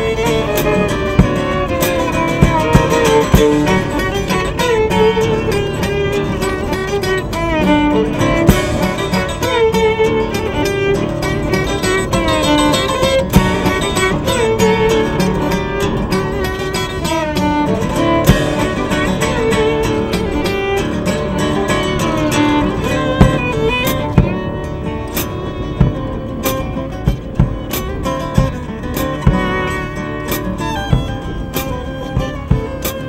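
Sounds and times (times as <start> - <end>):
strummed acoustic guitar: 0.0 - 33.0
violin melody: 0.0 - 33.0.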